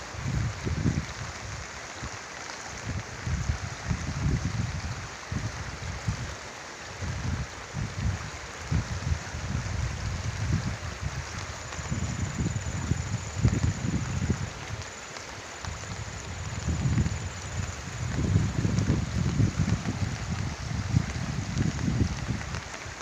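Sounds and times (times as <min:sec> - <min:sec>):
river water rushing: 0:00.0 - 0:23.0
wind gusts on microphone: 0:00.0 - 0:23.0.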